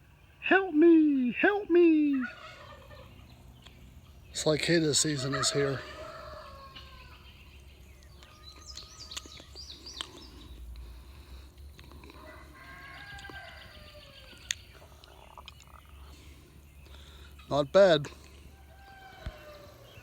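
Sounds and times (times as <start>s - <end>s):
chirping: 0.0s - 20.0s
poultry calls: 0.0s - 20.0s.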